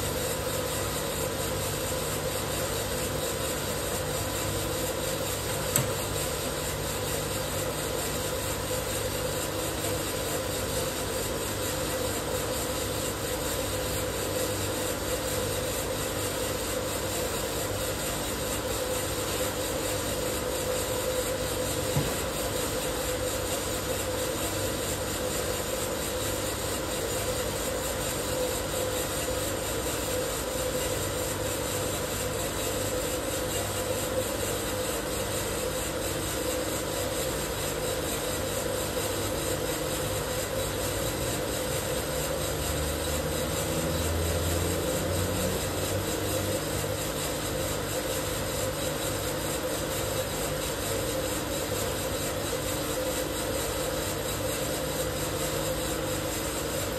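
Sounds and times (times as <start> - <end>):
fans and burner humming: 0.0 - 56.9.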